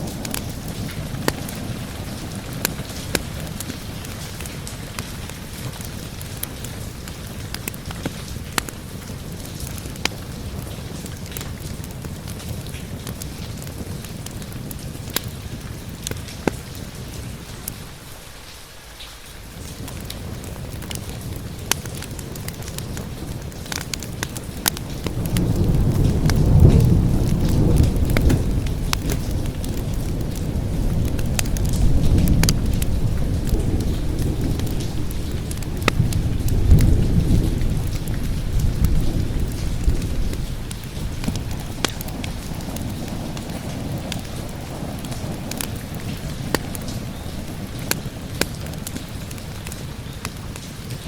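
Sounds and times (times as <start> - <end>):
thunder rumbling: 0.0 - 18.1, 19.3 - 50.6
steady rain: 0.0 - 51.0
wood fire crackling: 0.0 - 51.0.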